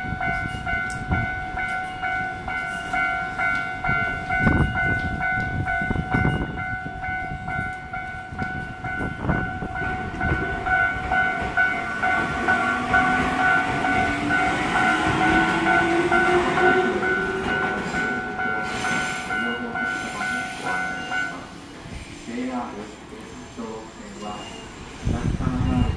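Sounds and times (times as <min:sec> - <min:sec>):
level crossing alarm ringing: 0:00.0 - 0:21.6.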